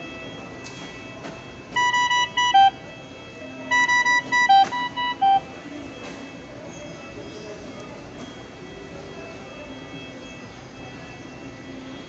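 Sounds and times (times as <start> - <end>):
ventilator alarm beeps: 0.0 - 12.0.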